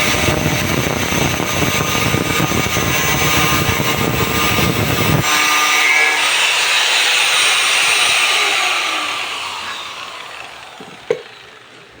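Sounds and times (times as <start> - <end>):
angle grinder spinning down: 0.0 - 12.0.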